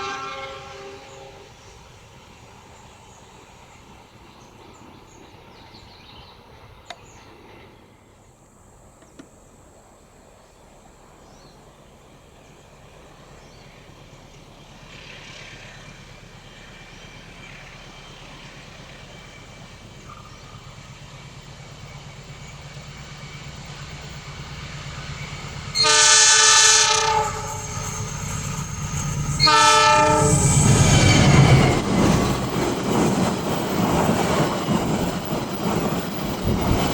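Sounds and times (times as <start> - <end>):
open-air background noise: 0.0 - 36.9.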